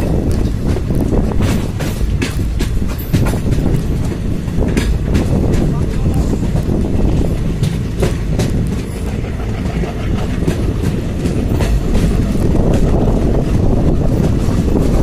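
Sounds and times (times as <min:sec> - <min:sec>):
train wheels rumbling on track: 0:00.0 - 0:15.0
wheels clicking over rail joints: 0:00.0 - 0:15.0.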